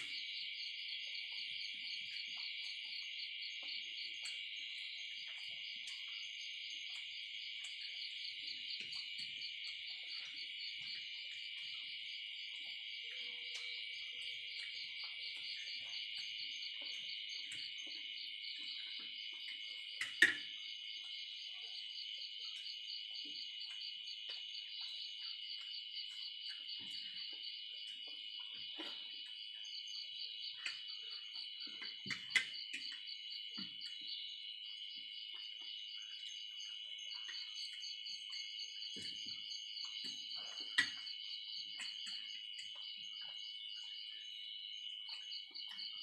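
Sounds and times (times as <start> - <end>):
insects chorus pulsing: 0.0 - 46.0.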